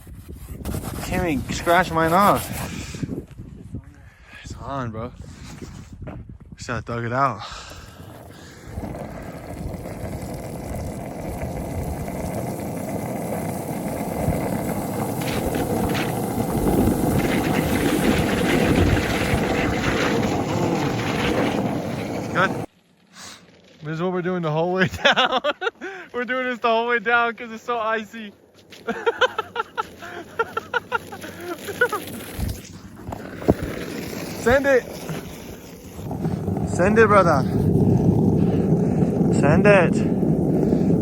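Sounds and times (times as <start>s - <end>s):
shoe sole scraping on road: 0.0s - 3.3s, 5.2s - 6.2s, 7.6s - 23.8s, 28.4s - 41.0s
skateboard wheels rumbling on road: 0.0s - 3.5s, 5.2s - 41.0s.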